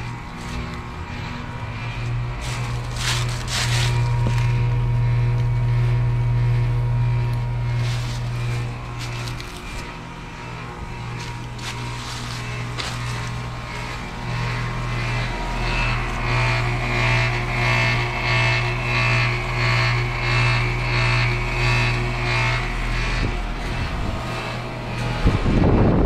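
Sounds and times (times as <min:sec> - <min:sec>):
compressor hum: 0:00.0 - 0:26.0
condenser fan whoosh: 0:00.0 - 0:26.0
loud low rumble: 0:00.0 - 0:26.0.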